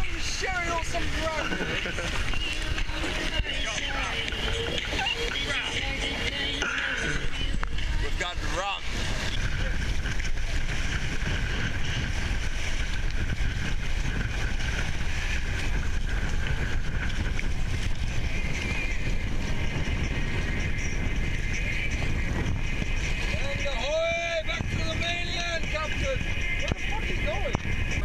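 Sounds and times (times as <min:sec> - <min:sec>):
water splashing along hull: 0:00.0 - 0:28.0
wind buffeting microphone: 0:00.0 - 0:28.0.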